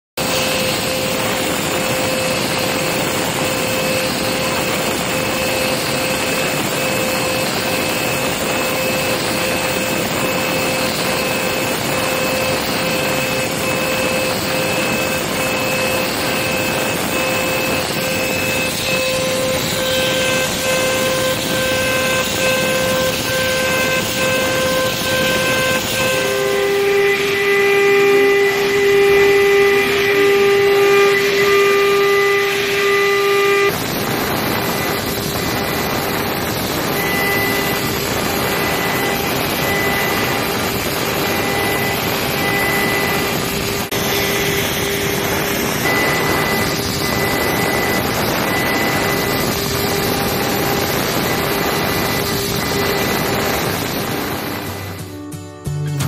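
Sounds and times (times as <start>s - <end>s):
high whining tones: 0.2s - 56.0s.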